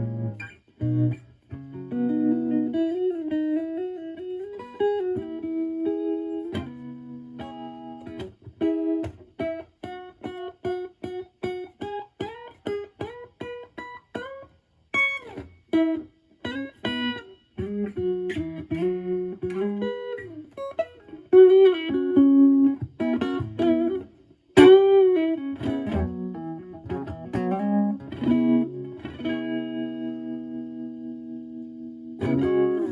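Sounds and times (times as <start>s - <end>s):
electric guitar with tremolo: 0.0s - 32.9s.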